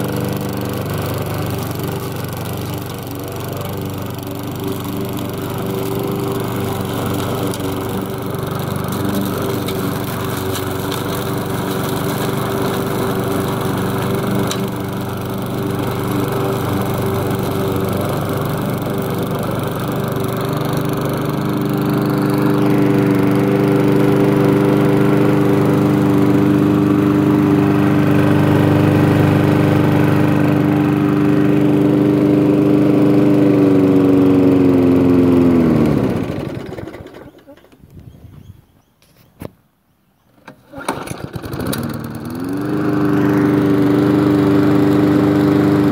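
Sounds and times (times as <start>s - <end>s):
lawn mower engine running: 0.0s - 37.8s, 40.4s - 45.9s.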